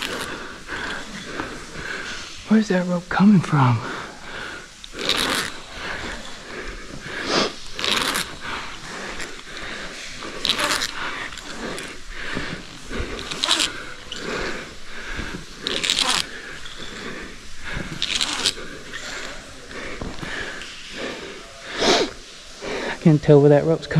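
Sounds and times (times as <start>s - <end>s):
ascenders zipping up rope: 0.0s - 2.6s, 3.6s - 22.3s.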